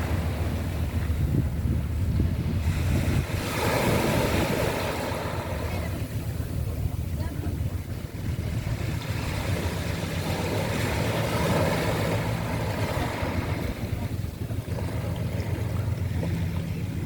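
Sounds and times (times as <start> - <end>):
boat engine running: 0.0 - 17.0
sea water washing: 0.0 - 17.0.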